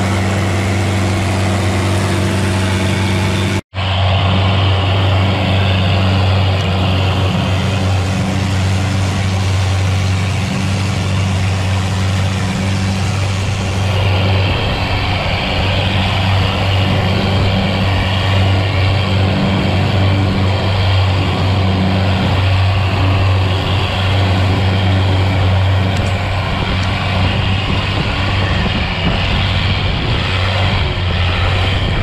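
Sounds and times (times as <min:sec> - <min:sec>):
boat engine running: 0:00.0 - 0:32.0
water rushing along hull: 0:00.0 - 0:32.0.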